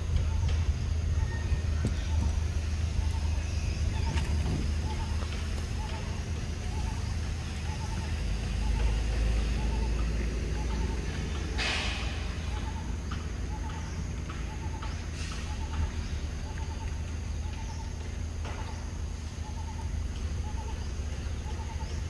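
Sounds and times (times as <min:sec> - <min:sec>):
bird calling: 0:00.0 - 0:22.0
low steady rumble: 0:00.0 - 0:22.0.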